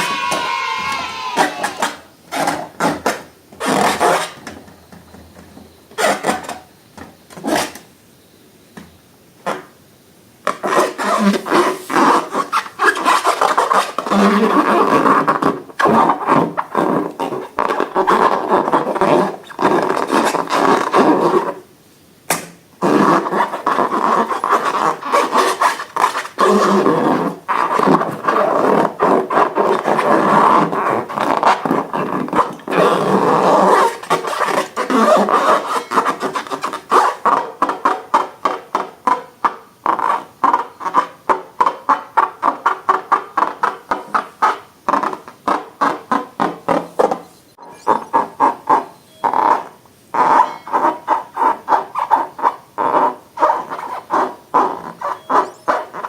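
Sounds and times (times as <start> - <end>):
slime and balloons rubbing and scraping: 0.0 - 4.4, 7.4 - 7.8, 10.5 - 21.6, 22.8 - 56.0.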